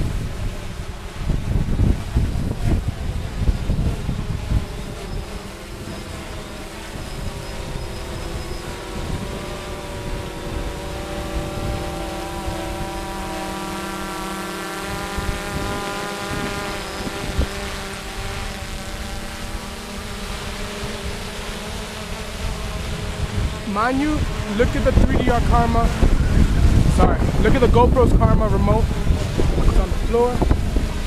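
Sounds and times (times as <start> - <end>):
drone propellers buzzing: 0.0 - 31.0
wind rumble on microphone: 0.0 - 31.0.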